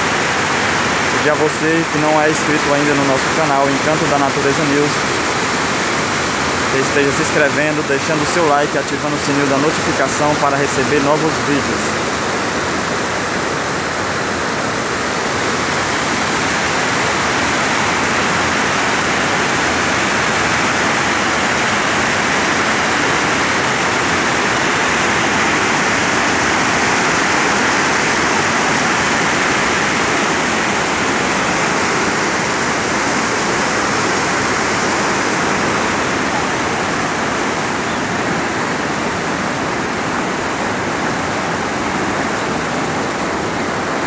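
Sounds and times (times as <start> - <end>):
water rushing over dam spillway: 0.0 - 44.0.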